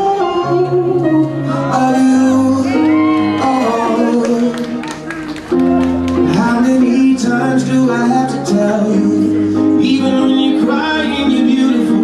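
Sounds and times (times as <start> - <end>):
person singing long notes: 0.0 - 12.0.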